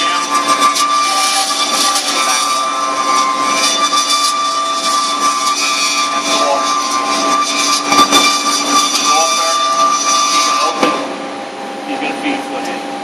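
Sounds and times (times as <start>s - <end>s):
metal-cutting band saw running: 0.0s - 13.0s.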